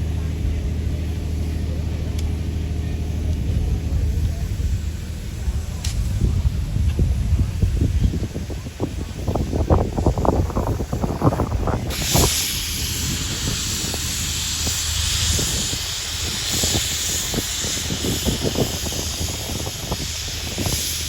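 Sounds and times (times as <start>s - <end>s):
steam engine hissing: 0.0s - 21.0s
wind rumbling on microphone: 0.0s - 21.0s.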